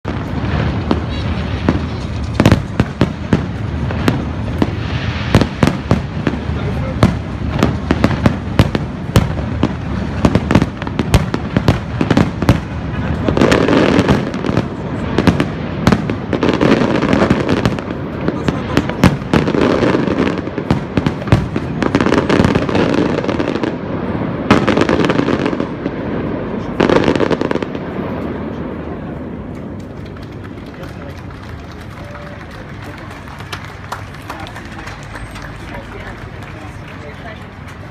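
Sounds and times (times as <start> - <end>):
fireworks launches and bursts: 0.0 - 37.9
sharp firework cracks: 0.1 - 32.6.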